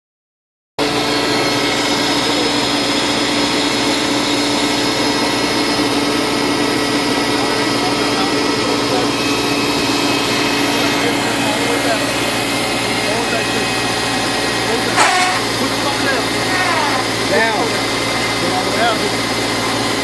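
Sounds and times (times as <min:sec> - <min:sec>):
tractor engine droning: 0:00.8 - 0:20.0.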